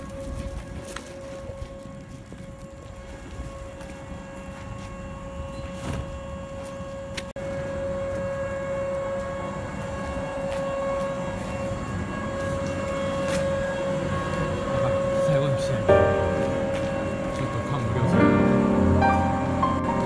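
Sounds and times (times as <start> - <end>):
electric train electrical hum: 0.0 - 20.0.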